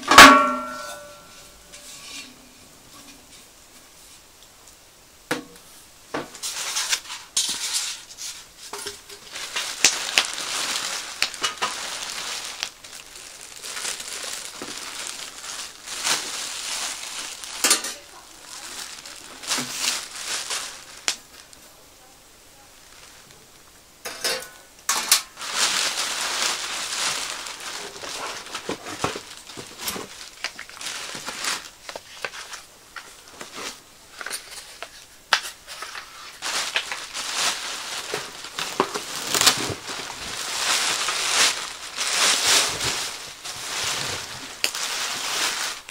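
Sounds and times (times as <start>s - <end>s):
plastic film crinkling: 6.3s - 21.7s, 22.8s - 23.4s, 24.9s - 45.9s.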